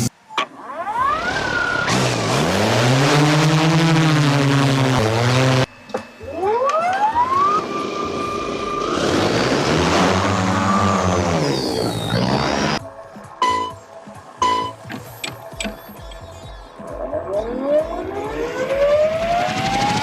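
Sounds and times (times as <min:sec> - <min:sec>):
drone motors whining: 0:00.0 - 0:12.8, 0:14.7 - 0:20.0.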